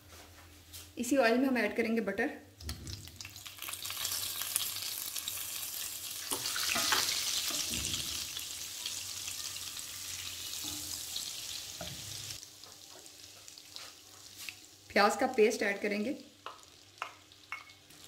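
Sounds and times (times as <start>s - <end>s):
butter sizzling in hot oil: 2.7s - 18.0s.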